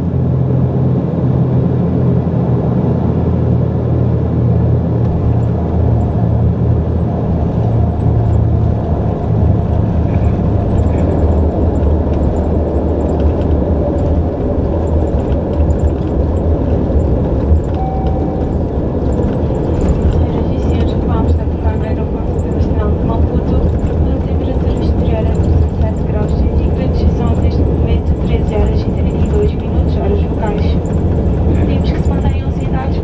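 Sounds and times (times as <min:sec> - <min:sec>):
propeller plane cabin drone: 0:00.0 - 0:33.0.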